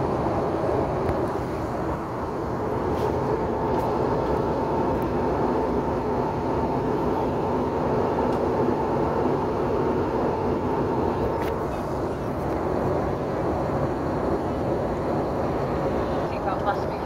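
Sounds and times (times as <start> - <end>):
aircraft rolling rumble: 0.0 - 17.0
jet engines running: 0.0 - 17.0.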